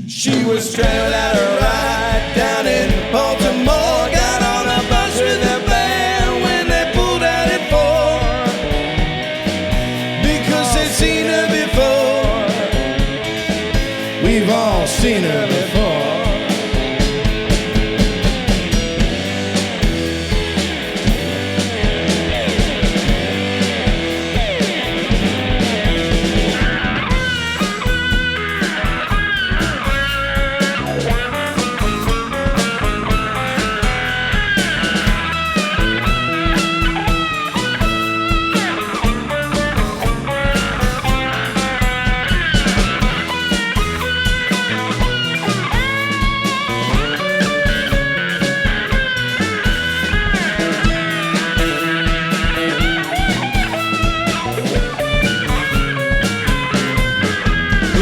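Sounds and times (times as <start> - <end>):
bass: 0.0 - 58.0
drum kit beat: 0.0 - 58.0
lead guitar melody: 0.8 - 58.0.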